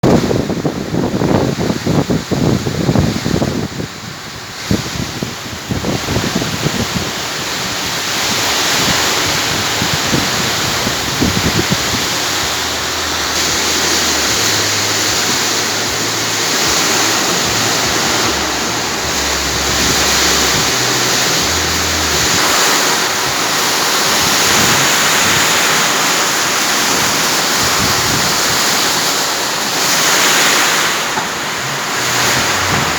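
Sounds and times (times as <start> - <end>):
heavy rain: 0.0 - 32.9
wind buffeting microphone: 0.0 - 32.9.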